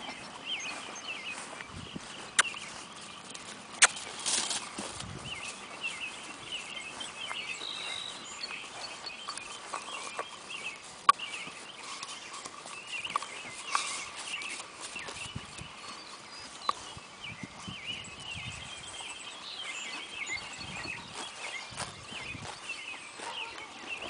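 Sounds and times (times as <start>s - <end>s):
birds chirping and twittering: 0.0s - 24.0s.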